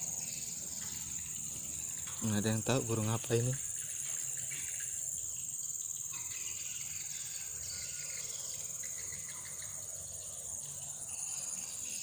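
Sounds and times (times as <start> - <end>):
faint chirps: 0.0 - 12.0
insect chorus drone: 0.0 - 12.0.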